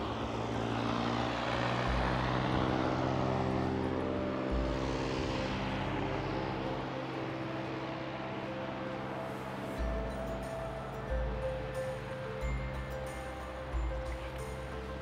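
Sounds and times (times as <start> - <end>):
propeller aircraft engine: 0.0 - 15.0.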